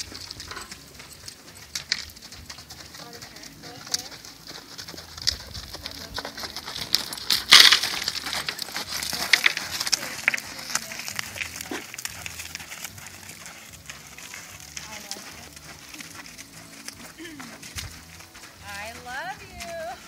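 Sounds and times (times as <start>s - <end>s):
clinking horse tack: 0.0s - 20.0s
hooves in sand: 0.0s - 20.0s.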